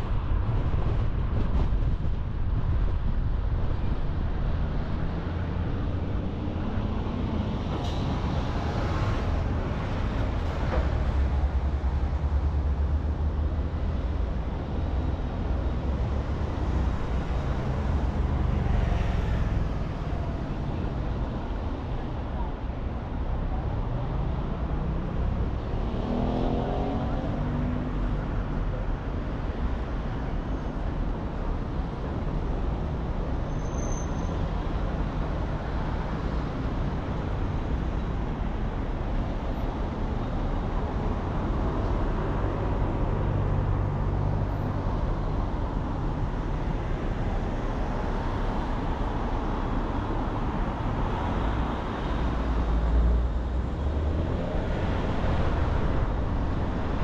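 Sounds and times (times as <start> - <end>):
car engine and tyre rumble: 0.0 - 57.0
traffic noise: 0.0 - 57.0.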